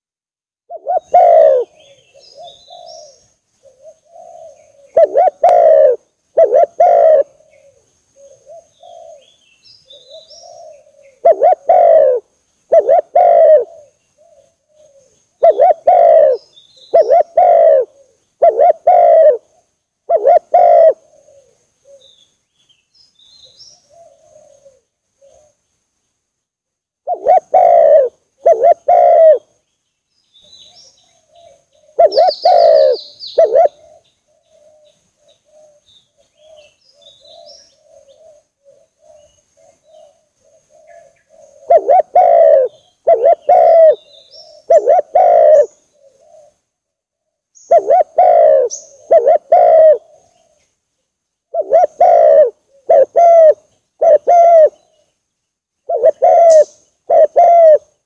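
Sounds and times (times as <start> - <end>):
softer faint cooing: 0.7 - 9.3, 10.0 - 22.2, 23.8 - 25.6, 27.1 - 29.5, 31.1 - 46.6, 47.7 - 50.7, 51.5 - 55.0, 55.9 - 58.0
dove cooing: 0.7 - 22.2, 23.4 - 25.6, 27.0 - 29.5, 30.6 - 50.7, 51.5 - 55.0, 55.8 - 58.0
faint bird chirps: 0.7 - 26.3, 27.0 - 58.0.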